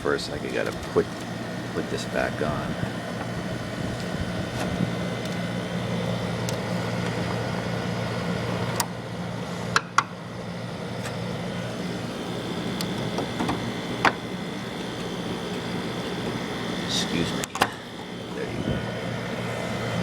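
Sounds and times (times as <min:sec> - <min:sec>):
window air conditioner humming: 0:00.0 - 0:20.0.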